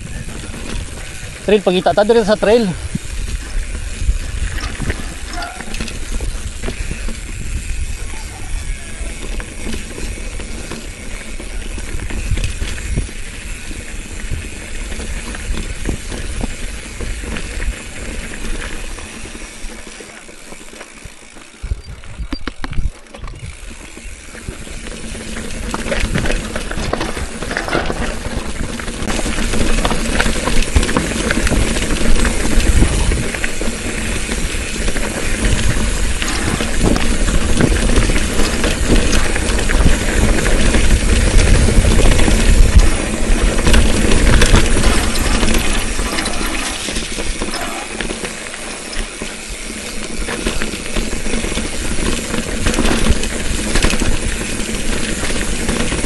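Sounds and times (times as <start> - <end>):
bicycle rattling over bumps: 0.0 - 56.0.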